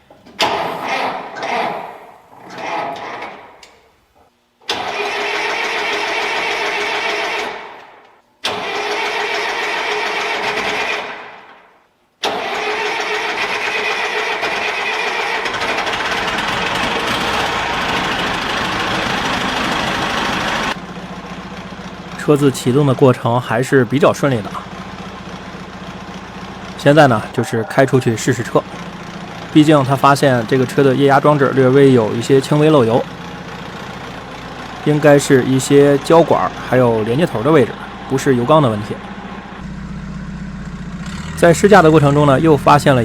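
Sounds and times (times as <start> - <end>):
forklift engine starting and running: 0.0 - 43.0.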